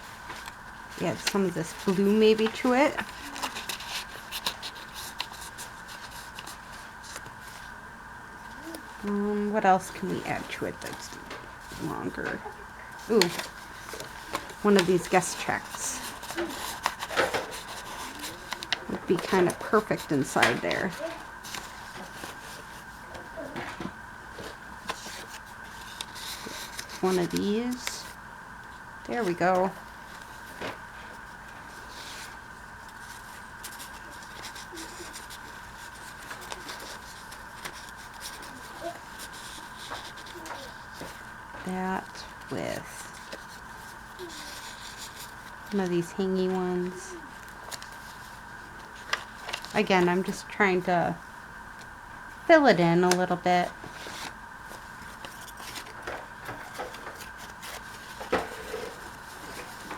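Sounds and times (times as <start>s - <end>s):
paper rustling: 0.0s - 7.8s, 8.4s - 50.8s, 53.1s - 59.9s
faint steady hum: 0.0s - 59.9s.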